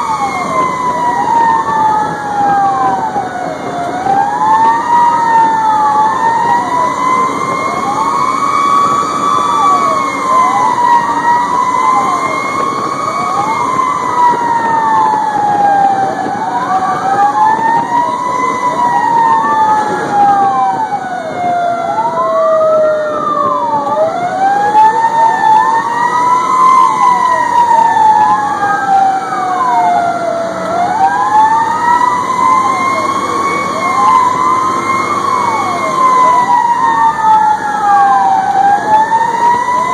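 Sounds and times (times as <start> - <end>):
fast wailing siren: 0.0 - 39.9
fire truck running: 0.0 - 39.9
slow wailing siren: 0.0 - 39.9.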